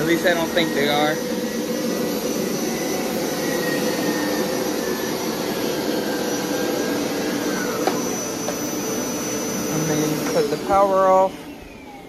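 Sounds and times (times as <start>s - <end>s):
carpet cleaner motor whirring: 0.0s - 12.0s.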